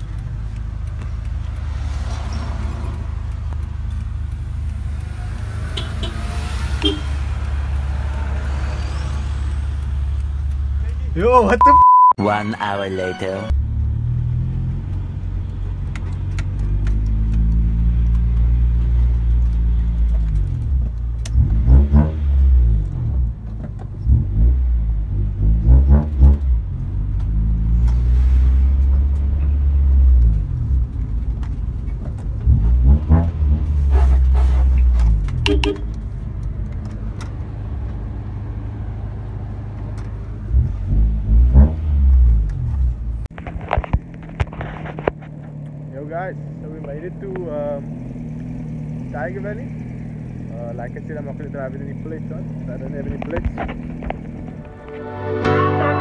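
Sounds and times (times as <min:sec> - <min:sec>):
car engine droning: 0:00.0 - 0:11.8, 0:13.5 - 0:56.0.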